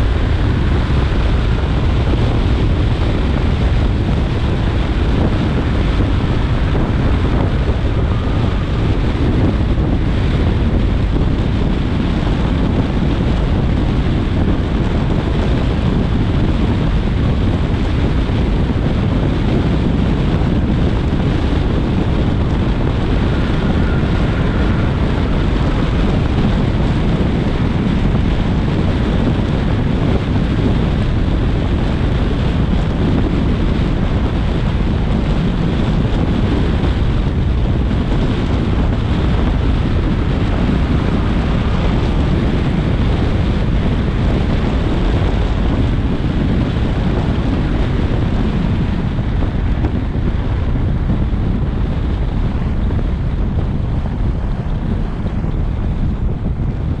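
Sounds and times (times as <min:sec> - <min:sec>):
tyre noise on wet road: 0:00.0 - 0:57.0
wind buffeting microphone: 0:00.0 - 0:57.0.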